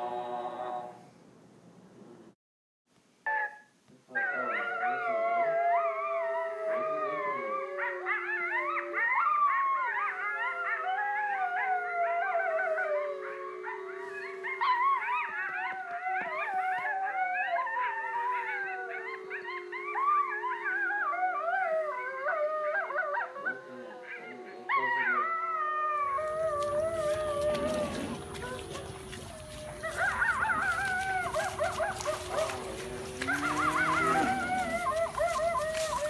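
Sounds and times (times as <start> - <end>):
dogs howling in chorus: 4.1 - 36.0.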